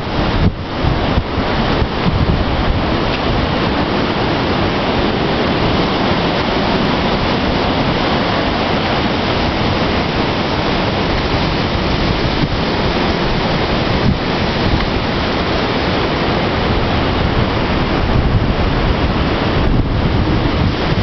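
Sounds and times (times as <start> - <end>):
wind buffeting microphone: 0.0 - 21.0
wind rushing through trees: 0.0 - 21.0.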